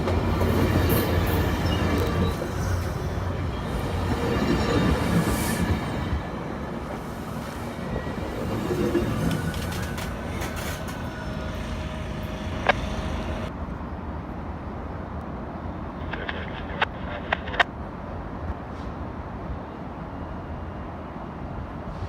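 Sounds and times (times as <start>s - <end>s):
train rumbling on tracks: 0.0s - 22.0s.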